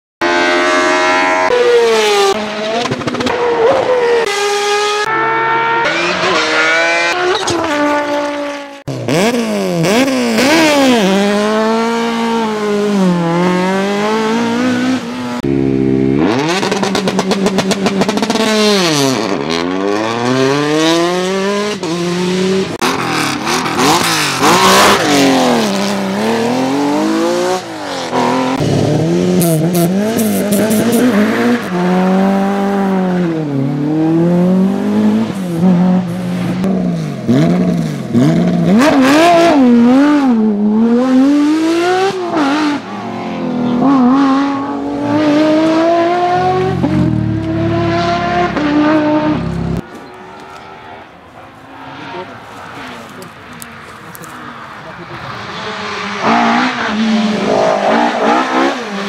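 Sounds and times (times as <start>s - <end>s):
rally car engines revving: 0.2s - 59.0s.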